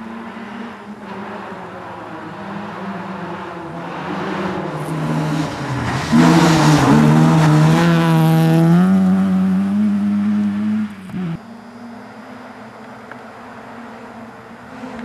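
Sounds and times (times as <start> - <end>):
rally car engine passing: 0.0 - 15.0.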